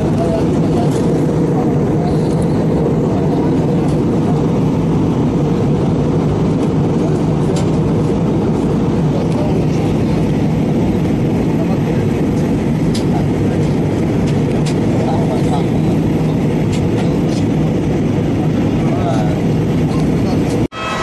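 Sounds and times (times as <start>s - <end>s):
airliner cabin rumble: 0.0s - 20.8s.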